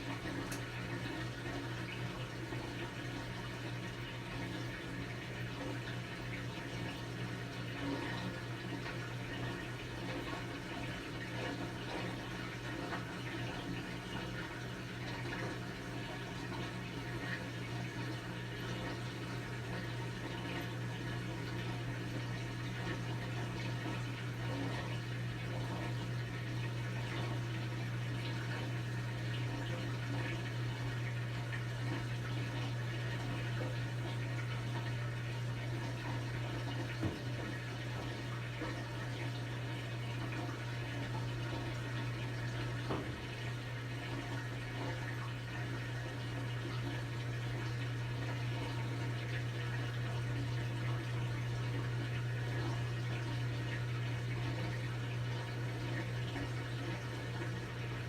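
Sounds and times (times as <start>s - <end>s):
low machine hum: 0.0s - 58.0s
washing machine water rushing: 0.0s - 58.0s.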